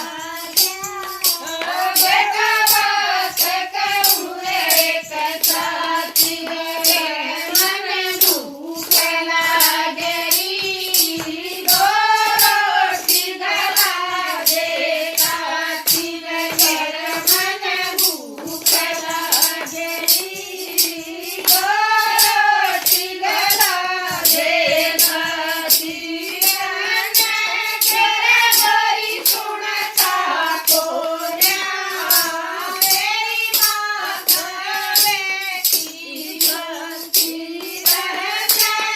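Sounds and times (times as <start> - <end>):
devotional song in high voice: 0.0 - 38.9
jingling hand percussion: 0.0 - 38.9.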